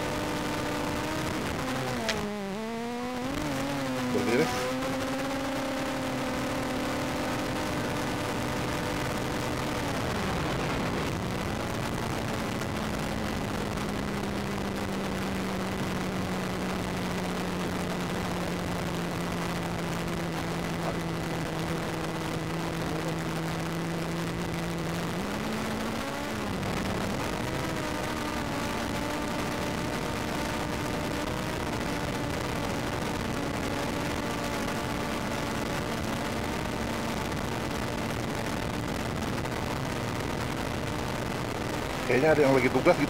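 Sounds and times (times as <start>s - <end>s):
engine humming: 0.0s - 43.0s
steady rushing noise: 0.0s - 43.0s.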